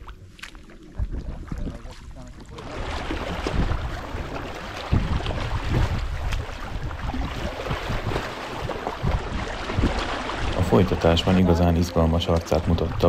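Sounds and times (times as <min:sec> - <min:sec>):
wind rumbling on microphone: 0:00.0 - 0:11.6
paddles dipping into water: 0:00.0 - 0:13.0.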